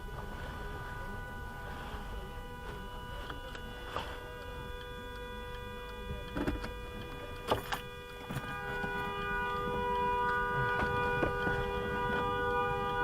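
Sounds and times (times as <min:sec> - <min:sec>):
car horn held tone: 0:00.0 - 0:13.0
lower horn note: 0:00.0 - 0:13.0.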